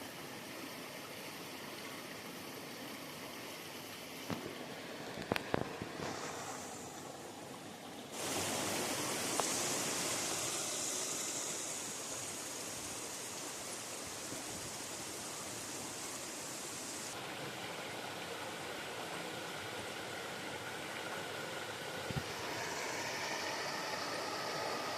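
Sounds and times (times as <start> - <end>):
river water rushing over rocks: 3.0 - 24.9.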